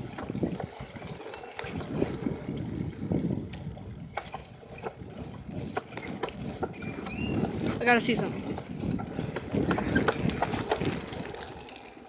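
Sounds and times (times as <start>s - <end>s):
bicycle rattles and clicks: 0.0s - 12.0s
wind rumbling on microphone: 0.0s - 12.0s.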